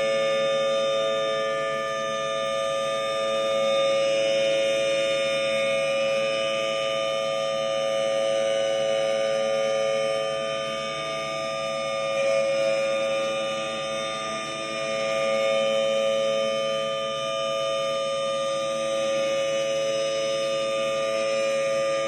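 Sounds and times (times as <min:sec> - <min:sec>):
warning siren steady pitch: 0:00.0 - 0:22.0.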